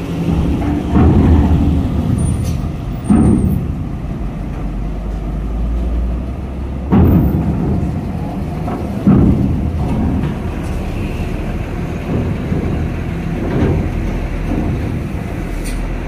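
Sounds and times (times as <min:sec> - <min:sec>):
diesel truck engine rumbling: 0:00.0 - 0:16.0
heavy thuds of wheels on ramp: 0:00.0 - 0:16.0.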